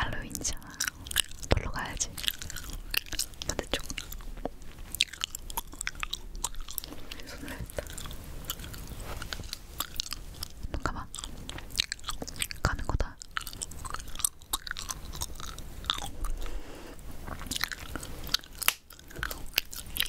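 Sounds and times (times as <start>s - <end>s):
gum chewing mouth sounds: 0.0s - 20.0s.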